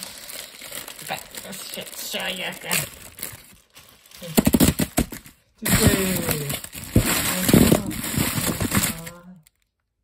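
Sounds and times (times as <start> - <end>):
plastic candy wrappers crinkling: 0.0 - 10.0.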